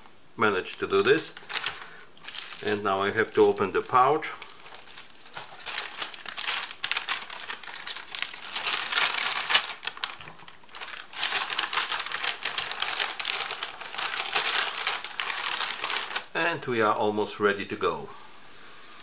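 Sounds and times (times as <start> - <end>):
plastic bag crinkling: 0.6 - 16.4.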